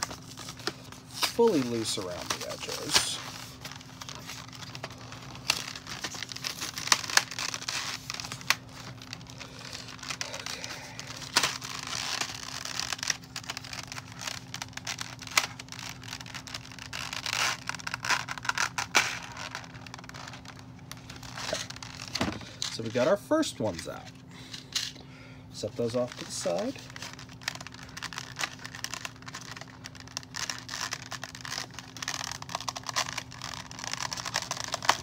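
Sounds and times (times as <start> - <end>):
plastic packaging crinkling: 0.0 - 24.8, 25.6 - 35.0.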